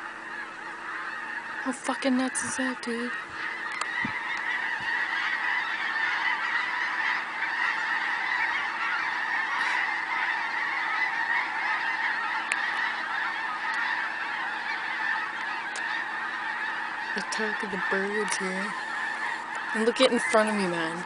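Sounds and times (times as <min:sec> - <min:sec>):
large flock of birds calling: 0:00.0 - 0:21.0.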